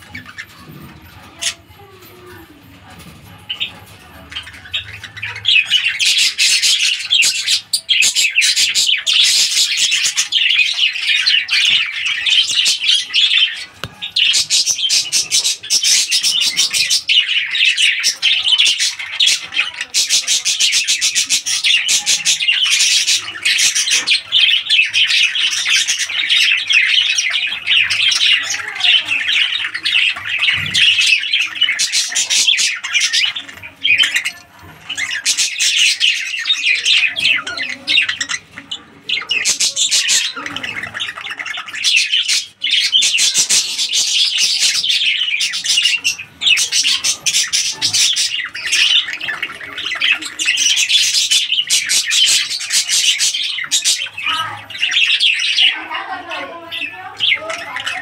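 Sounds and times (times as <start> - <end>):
budgerigars chattering and squawking: 0.0 - 58.0.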